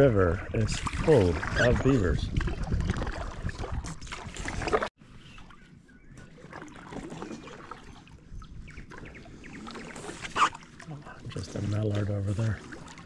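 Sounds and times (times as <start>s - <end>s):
water splashing and dripping: 0.6s - 4.9s, 6.2s - 13.0s
kayak paddle strokes in water: 0.8s - 13.0s.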